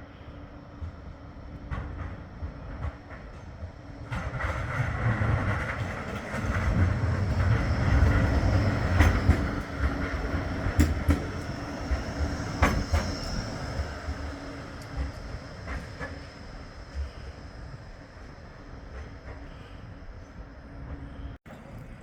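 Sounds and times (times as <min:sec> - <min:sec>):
tram rumbling: 0:00.0 - 0:22.0.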